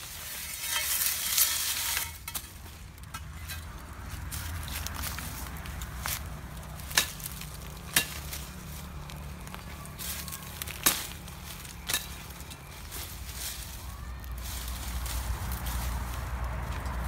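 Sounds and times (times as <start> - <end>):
dry leaves rustling underfoot: 0.0 - 17.0.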